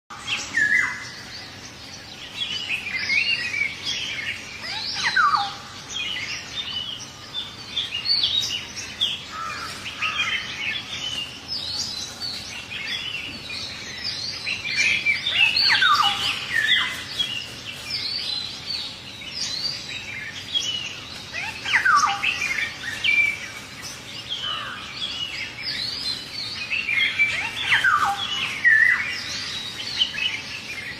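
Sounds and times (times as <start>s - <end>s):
birds chirping and whistling: 0.1s - 30.9s.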